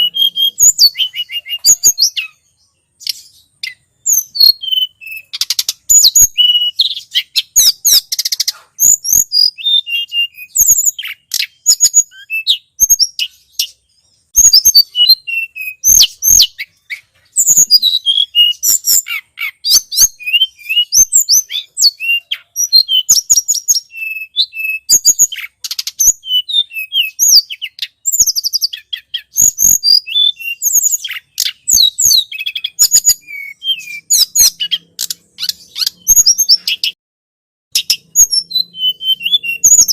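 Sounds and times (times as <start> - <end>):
bird chirps and trills: 0.0 - 37.0, 37.7 - 39.9.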